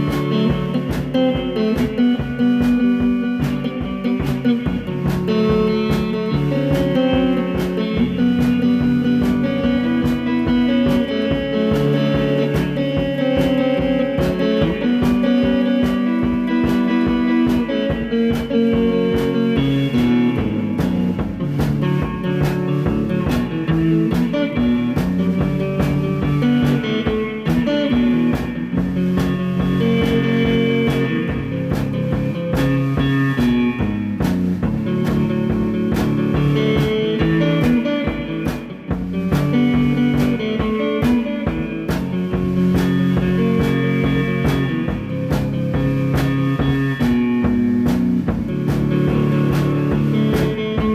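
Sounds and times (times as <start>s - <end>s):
guitar-led rock music: 0.0s - 50.9s
steady drum beat: 0.0s - 50.9s.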